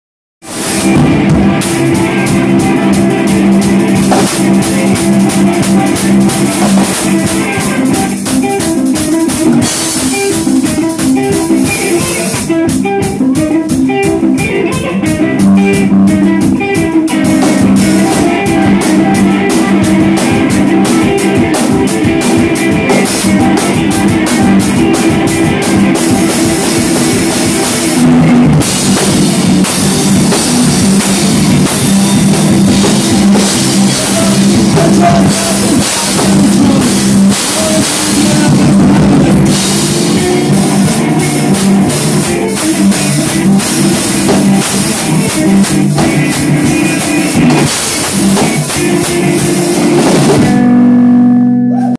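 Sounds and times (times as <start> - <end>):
drum and cymbal strikes: 0.4 - 50.7
electric guitar: 0.4 - 51.9
live rock music: 0.4 - 51.9.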